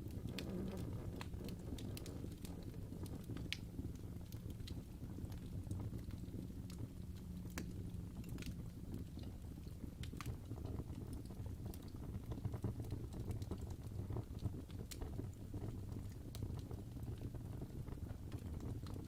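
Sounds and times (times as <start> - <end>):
fire rumbling: 0.0 - 19.0
logs crackling and popping: 0.0 - 19.0.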